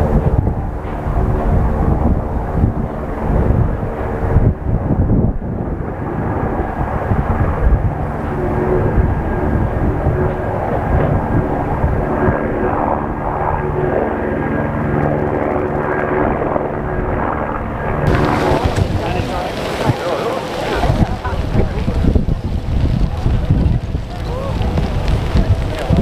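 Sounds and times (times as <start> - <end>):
aircraft engine drone: 0.0 - 26.0
rumbling roar of lava vent: 0.0 - 26.0.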